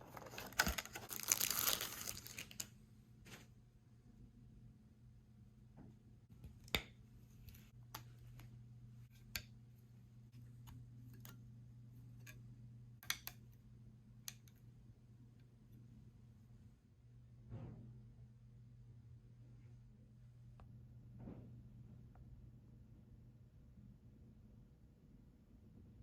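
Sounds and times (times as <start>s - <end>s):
faint low hum: 1.8s - 26.0s.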